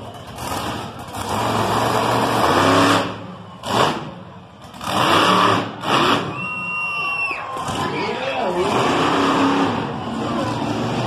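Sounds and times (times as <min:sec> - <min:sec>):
truck engine revving hard: 0:00.2 - 0:06.4, 0:07.6 - 0:11.0.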